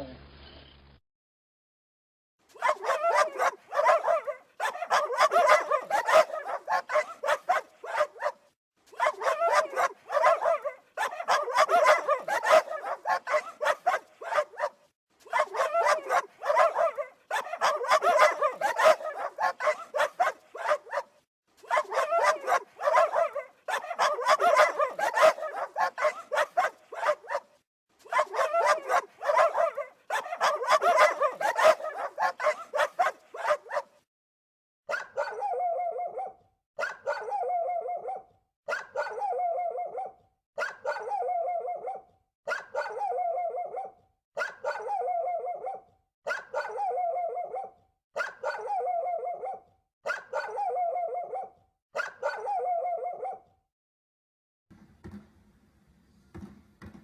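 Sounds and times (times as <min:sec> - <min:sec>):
dogs barking rapidly: 0:02.6 - 0:34.0, 0:34.9 - 0:53.4.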